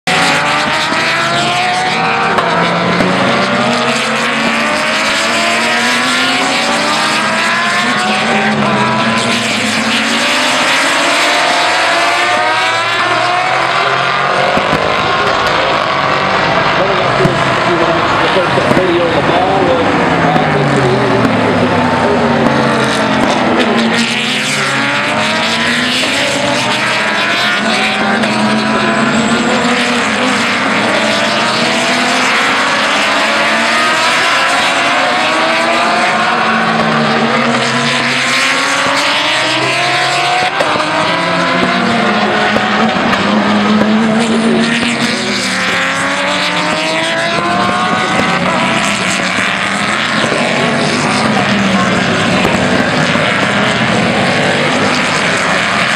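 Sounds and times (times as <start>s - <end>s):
race car engines passing by: 0.0s - 55.9s.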